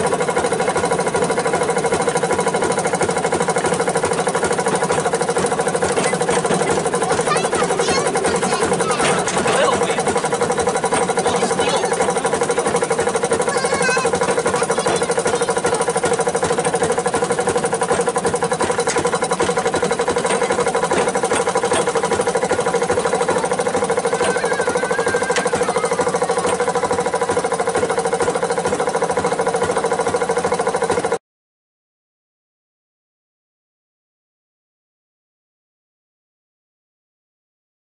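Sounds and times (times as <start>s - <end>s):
rail car engine running: 0.0s - 31.2s.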